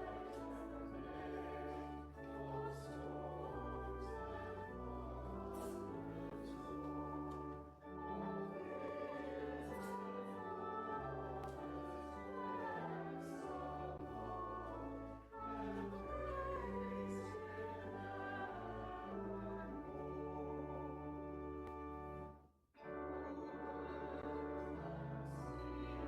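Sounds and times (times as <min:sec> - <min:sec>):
organ chords: 0:00.0 - 0:26.0.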